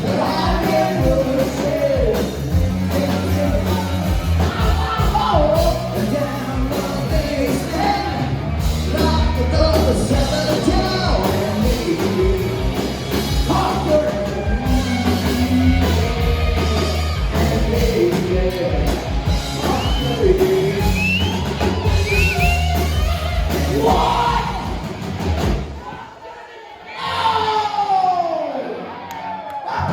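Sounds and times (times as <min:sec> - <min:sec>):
lead vocal singing: 0:00.0 - 0:22.6, 0:23.5 - 0:25.0
live rock band playing: 0:00.0 - 0:25.8.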